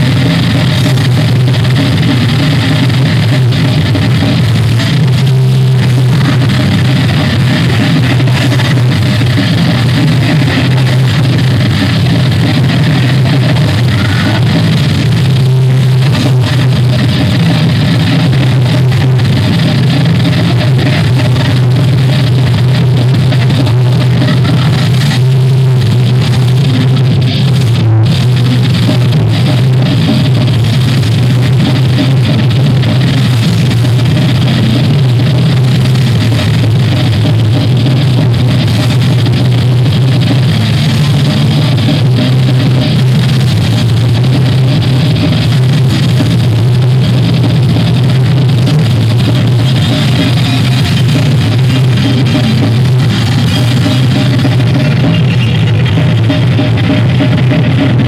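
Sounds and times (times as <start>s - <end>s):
bass guitar: 0.0s - 58.0s
distorted electric guitar: 0.0s - 58.0s
drum kit: 0.0s - 58.0s.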